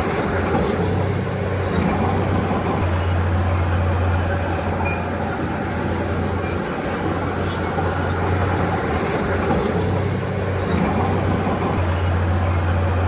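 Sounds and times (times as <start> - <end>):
bulldozer diesel engine: 0.0 - 13.0
machine squeaking: 0.0 - 13.0.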